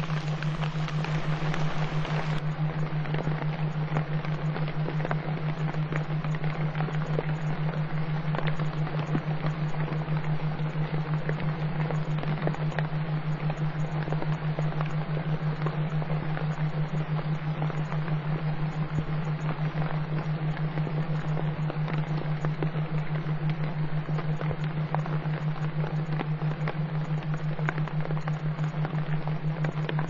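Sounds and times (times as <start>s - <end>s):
pulsing low hum: 0.0s - 30.0s
steady hiss with soft crackles: 0.0s - 30.0s.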